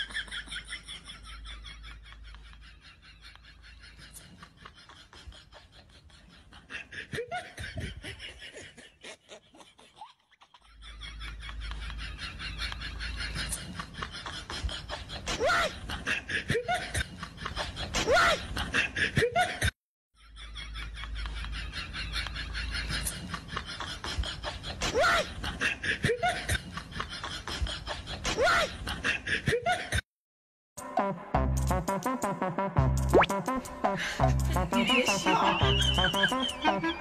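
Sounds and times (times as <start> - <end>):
hearty laughter: 0.0 - 30.0, 34.0 - 37.0.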